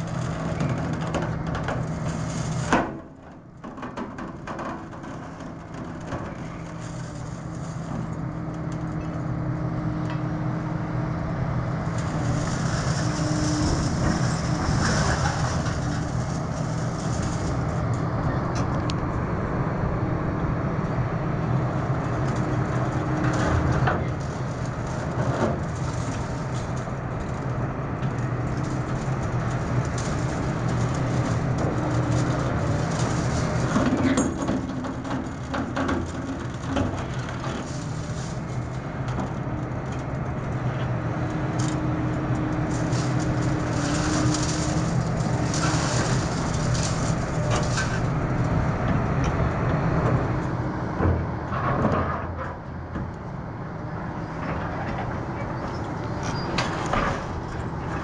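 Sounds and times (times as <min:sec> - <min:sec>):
shear scraping and clanking on steel: 0:00.0 - 0:19.2, 0:20.8 - 0:53.2, 0:53.8 - 0:58.0
excavator diesel engine running: 0:00.0 - 0:58.0.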